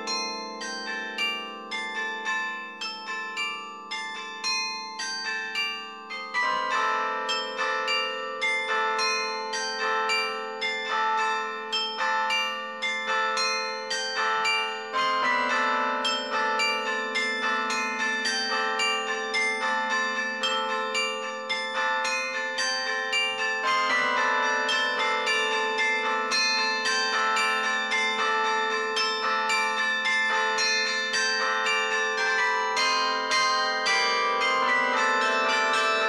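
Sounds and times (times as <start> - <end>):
carillon bell melody: 0.0 - 36.0
lower bells ringing: 0.0 - 36.0.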